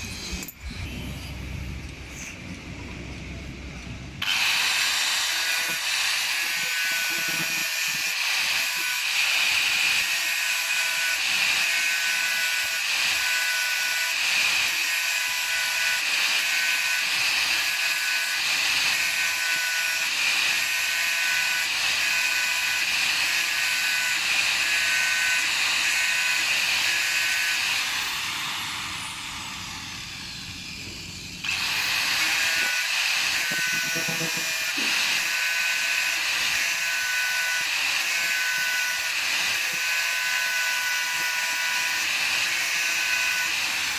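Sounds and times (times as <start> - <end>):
power tool motor whining: 0.0 - 2.4, 4.2 - 43.9.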